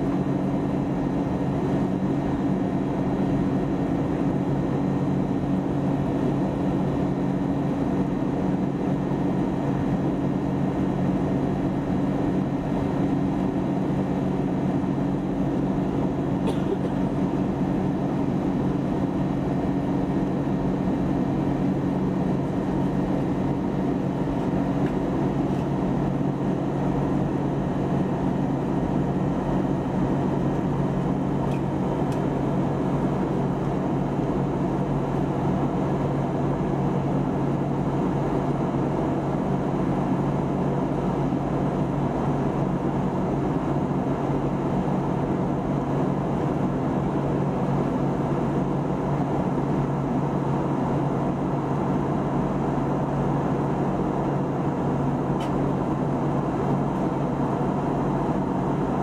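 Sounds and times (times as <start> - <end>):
airplane cabin noise: 0.0 - 59.0
constant low hum: 0.0 - 59.0.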